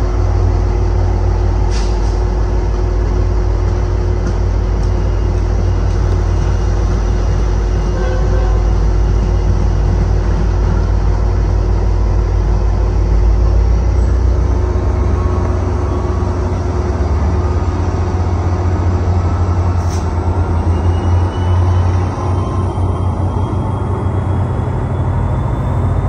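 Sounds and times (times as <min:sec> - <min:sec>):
diesel locomotive running: 0:00.0 - 0:26.0
train cars rolling on rails: 0:00.0 - 0:26.0.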